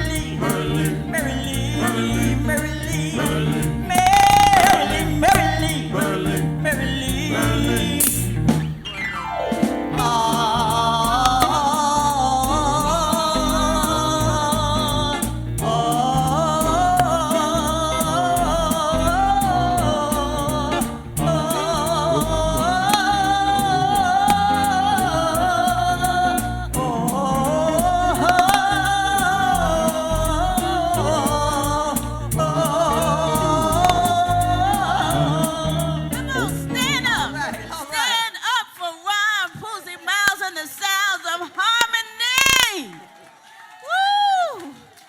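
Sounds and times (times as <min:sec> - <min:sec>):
instrumental accompaniment: 0:00.0 - 0:37.8
vocal group singing harmony: 0:00.0 - 0:41.4.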